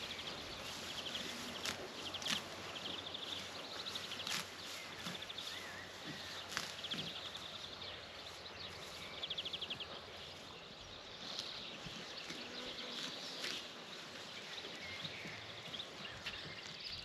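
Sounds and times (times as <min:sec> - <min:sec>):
rural ambience: 0:00.0 - 0:17.0.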